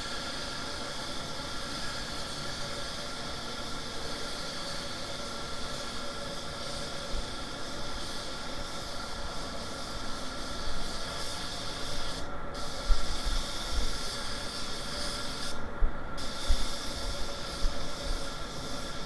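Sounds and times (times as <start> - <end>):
paint spray gun hissing: 0.0 - 19.0.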